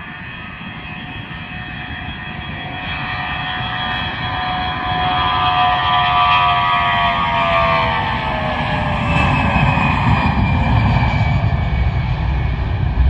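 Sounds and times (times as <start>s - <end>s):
jet engines at takeoff thrust: 0.0s - 13.0s.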